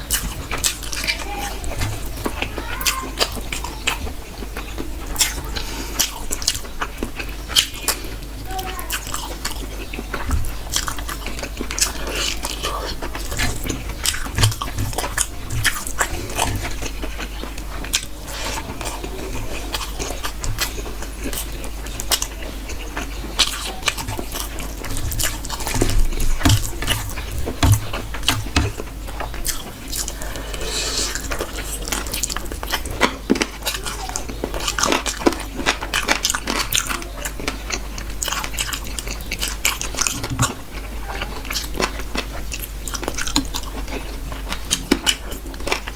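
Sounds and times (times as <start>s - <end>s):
person chewing food: 0.0s - 45.9s
steady low hum: 0.0s - 45.9s.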